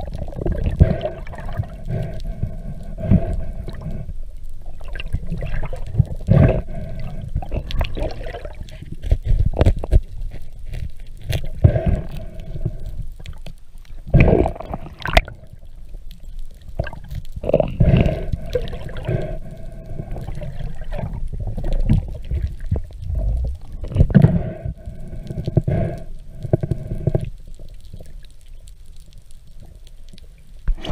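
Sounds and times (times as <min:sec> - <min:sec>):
muffled underwater water rushes: 0:00.0 - 0:30.9.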